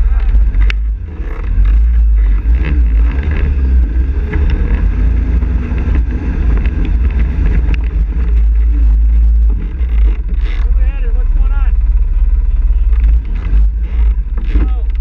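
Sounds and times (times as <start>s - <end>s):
quad engine running: 0.0s - 15.0s
wind buffeting microphone: 0.0s - 15.0s.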